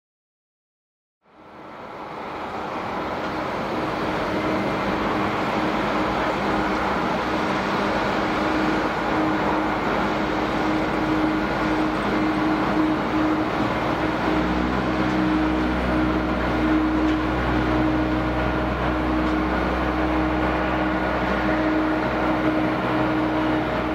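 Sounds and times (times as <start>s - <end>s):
jet engines running: 1.4s - 23.9s.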